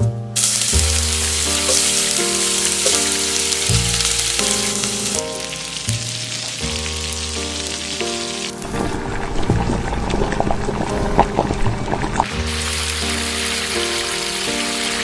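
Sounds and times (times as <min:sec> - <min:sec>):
background music with low notes: 0:00.0 - 0:15.0
food sizzling in hot oil: 0:00.4 - 0:11.4, 0:12.2 - 0:15.0.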